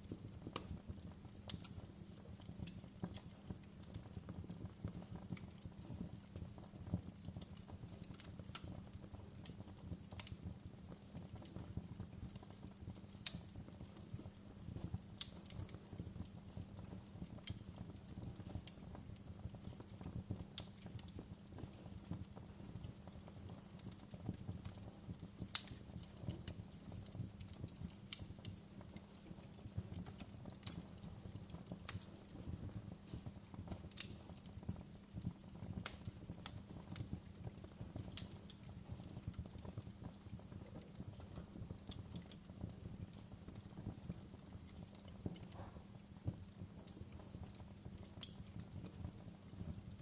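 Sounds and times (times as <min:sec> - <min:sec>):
low rumble of flames: 0:00.0 - 0:50.0
wood fire crackling: 0:00.0 - 0:50.0.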